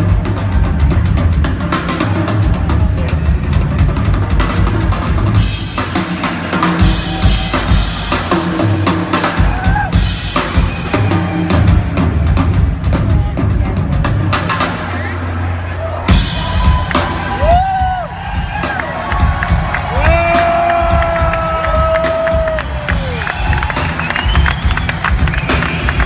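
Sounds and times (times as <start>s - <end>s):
drum kit solo: 0.0s - 15.3s, 16.1s - 26.0s.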